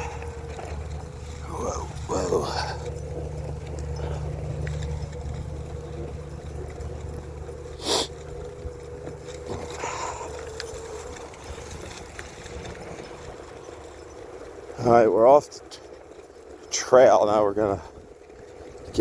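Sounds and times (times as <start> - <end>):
electric board rumble and motor whine: 0.0 - 19.0.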